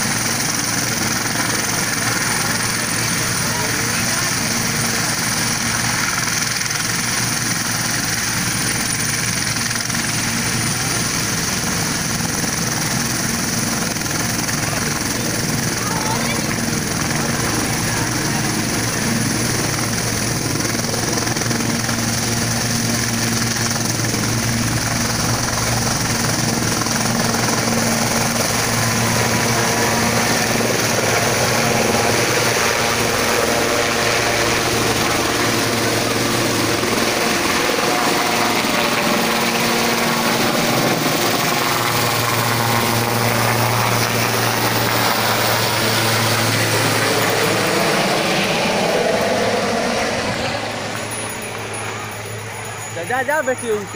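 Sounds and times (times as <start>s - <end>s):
helicopter turbine and rotor: 0.0s - 53.9s.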